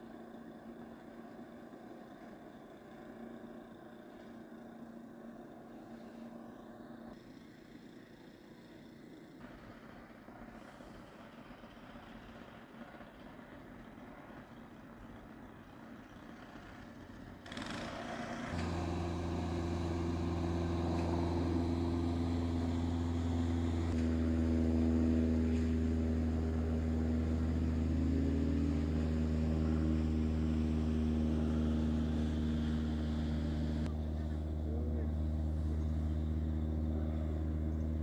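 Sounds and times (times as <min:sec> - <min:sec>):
engine hum: 0:00.0 - 0:38.0.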